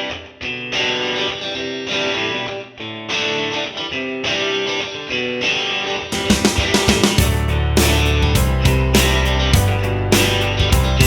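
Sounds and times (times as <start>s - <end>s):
guitar chords: 0.0s - 11.0s.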